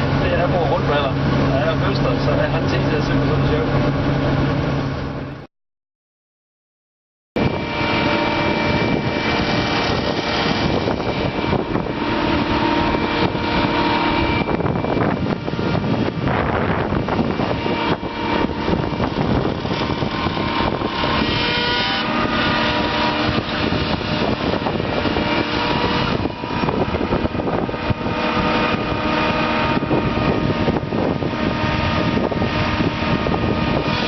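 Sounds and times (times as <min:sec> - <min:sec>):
harvest machinery engine droning: 0:00.0 - 0:05.5, 0:07.4 - 0:34.0.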